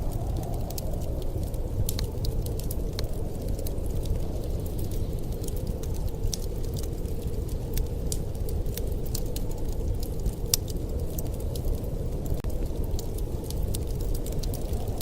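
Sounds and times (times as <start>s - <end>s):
low rumble of wind: 0.0s - 15.0s
wood fire crackling and popping: 0.0s - 15.0s.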